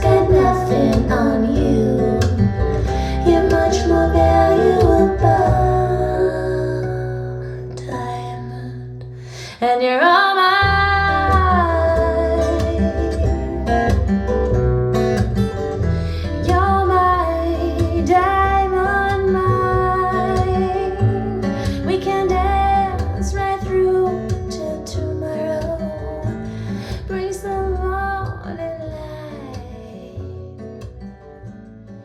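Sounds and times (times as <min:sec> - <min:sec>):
acoustic guitar: 0:00.0 - 0:32.0
bass: 0:00.0 - 0:32.0.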